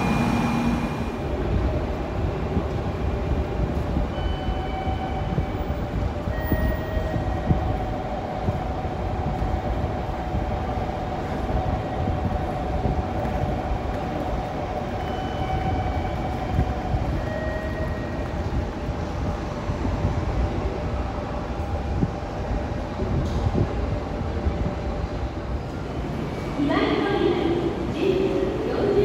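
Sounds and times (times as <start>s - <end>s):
station machinery rumble and hum: 0.0s - 29.0s.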